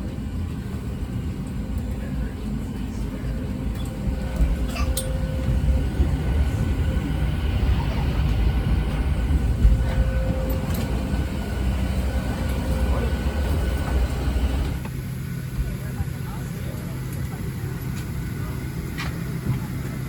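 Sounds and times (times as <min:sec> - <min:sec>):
faint voices: 0:00.0 - 0:14.8, 0:15.4 - 0:20.0
steady low rumble: 0:00.0 - 0:20.0.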